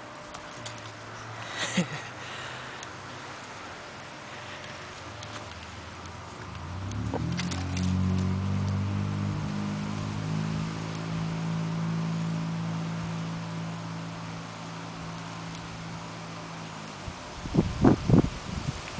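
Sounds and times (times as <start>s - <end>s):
low engine hum: 0.0s - 18.9s.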